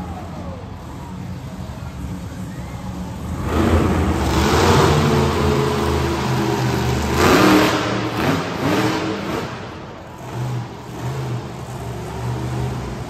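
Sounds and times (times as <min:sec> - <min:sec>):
monster truck engine revving: 0:01.9 - 0:13.0.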